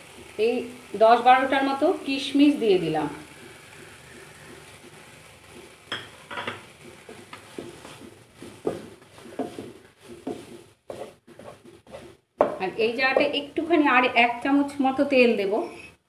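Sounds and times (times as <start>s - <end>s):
wooden spatula scraping a pan: 0.0s - 13.5s
faint frying sizzle: 0.0s - 16.0s.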